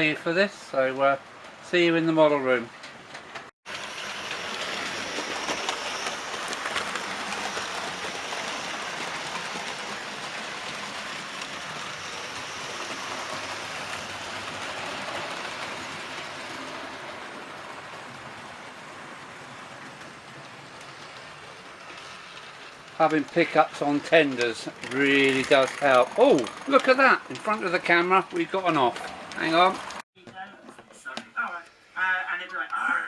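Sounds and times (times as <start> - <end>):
model train wheels rattling on rails: 2.8 - 30.0.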